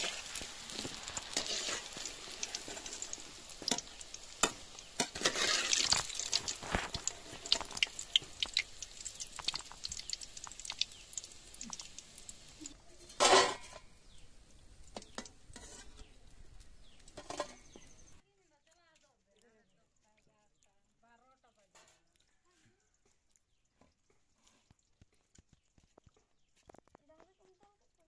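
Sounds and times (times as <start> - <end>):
hot oil crackling and popping: 0.0 - 28.0.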